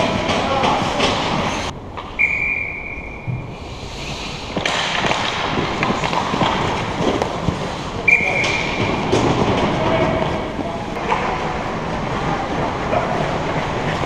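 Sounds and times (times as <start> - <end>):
skates scraping on ice: 0.0 - 1.7, 3.8 - 14.0
hockey sticks clacking: 0.0 - 2.3, 4.4 - 14.0.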